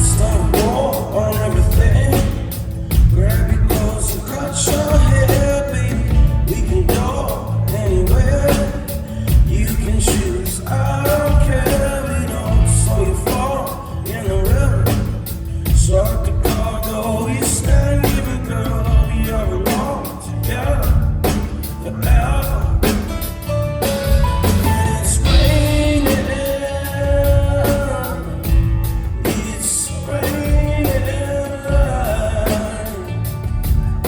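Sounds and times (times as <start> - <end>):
bass guitar: 0.0 - 34.0
electric guitars: 0.0 - 34.0
person singing: 0.0 - 34.0
steady drum beat: 0.0 - 34.0.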